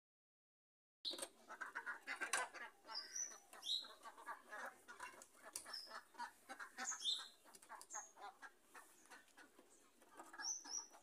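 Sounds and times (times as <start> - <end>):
bird calls: 1.1 - 11.0.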